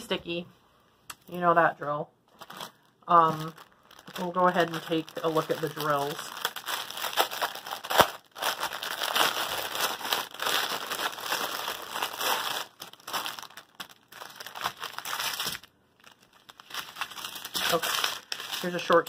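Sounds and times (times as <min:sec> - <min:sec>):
plastic packaging crinkling: 0:02.3 - 0:19.0.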